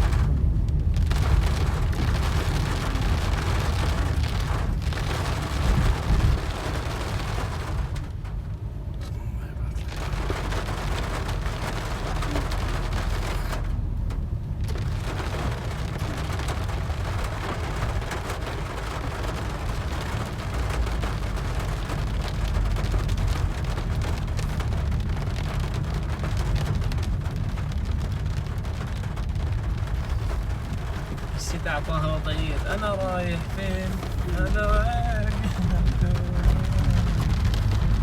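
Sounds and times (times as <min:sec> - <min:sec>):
low rumble: 0:00.0 - 0:38.0
rain falling: 0:00.0 - 0:38.0.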